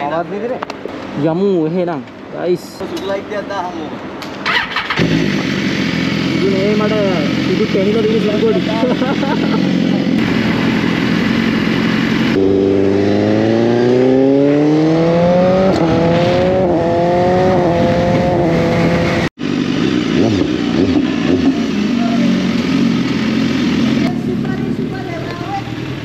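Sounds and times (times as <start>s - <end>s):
motorcycle engine accelerating: 4.4s - 26.0s.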